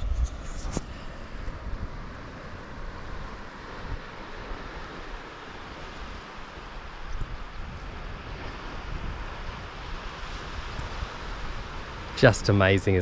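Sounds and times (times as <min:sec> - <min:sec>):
wind rumbling on microphone: 0:00.0 - 0:13.0
ocean surf: 0:00.9 - 0:13.0.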